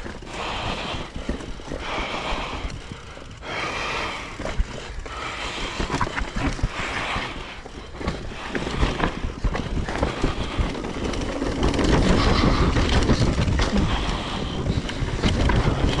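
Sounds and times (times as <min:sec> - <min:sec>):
mountain bike rattling over trail: 0:00.0 - 0:16.0
tyres rumbling: 0:00.0 - 0:16.0.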